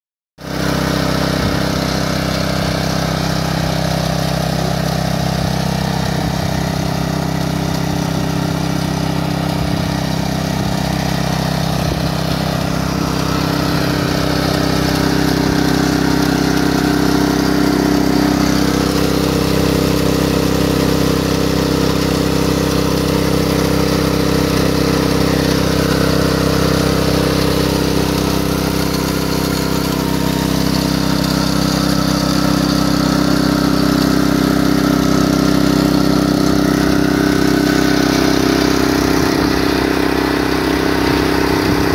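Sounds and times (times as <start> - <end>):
small engine running steadily: 0.4 - 41.9.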